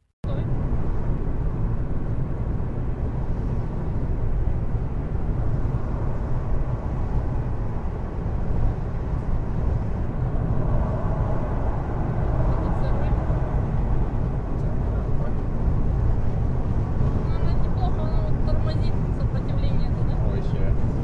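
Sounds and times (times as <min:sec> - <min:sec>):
car engine rumble: 0:00.2 - 0:21.0.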